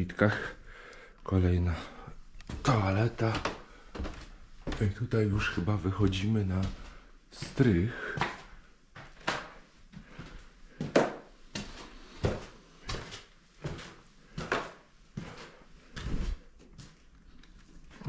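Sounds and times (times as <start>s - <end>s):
footsteps on wooden stairs: 1.9s - 17.0s.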